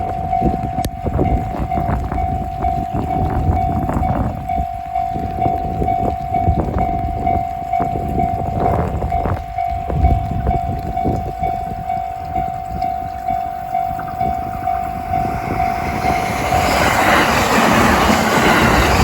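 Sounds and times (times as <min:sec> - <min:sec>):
level crossing warning bell: 0:00.0 - 0:19.0
wind buffeting microphone: 0:00.0 - 0:19.0.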